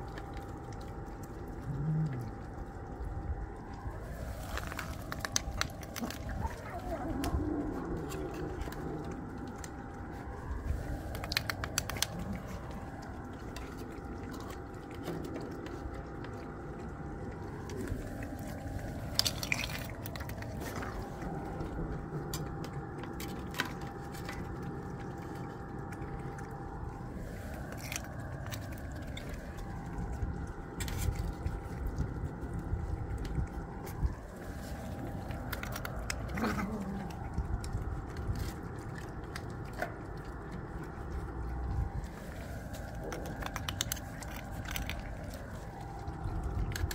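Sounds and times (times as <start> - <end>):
cats chewing and smacking: 0.0 - 46.9.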